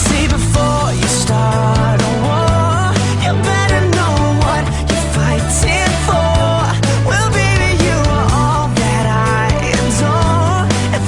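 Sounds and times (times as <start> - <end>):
pop-rock song with vocals: 0.0 - 11.0.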